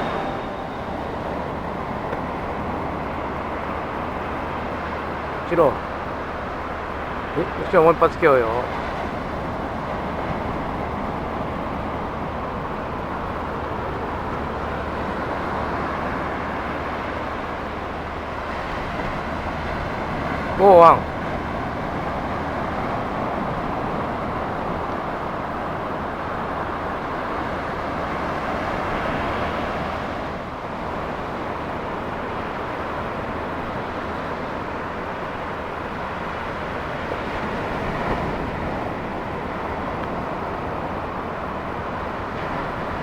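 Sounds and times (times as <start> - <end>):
ocean surf washing in: 0.0 - 43.0.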